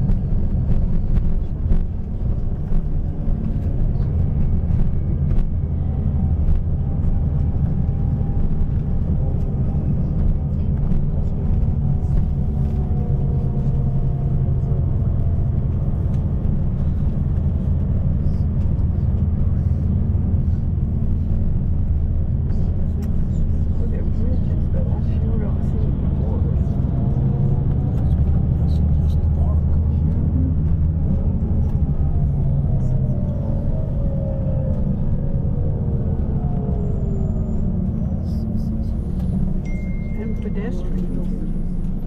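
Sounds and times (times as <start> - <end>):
bus engine rumble: 0.0 - 42.0
faint whine: 0.0 - 42.0.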